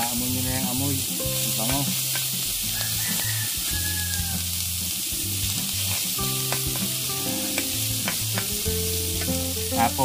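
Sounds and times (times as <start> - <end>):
meat sizzling on hot plate: 0.0 - 10.0.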